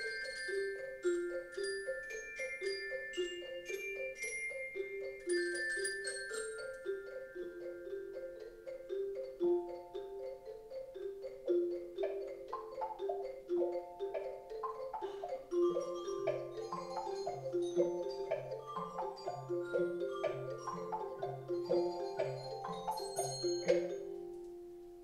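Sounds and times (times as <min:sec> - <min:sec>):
mallet percussion melody: 0:00.0 - 0:25.0.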